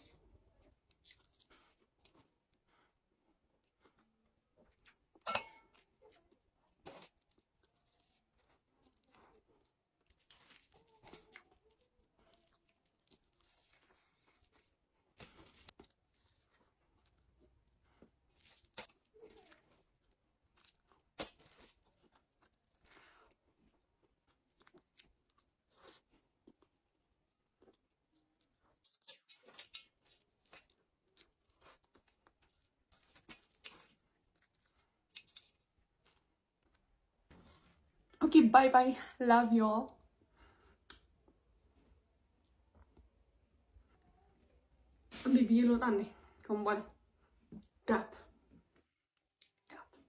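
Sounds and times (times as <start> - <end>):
chewing with mouth clicks: 0.0 - 36.9, 39.9 - 43.1, 48.7 - 50.0.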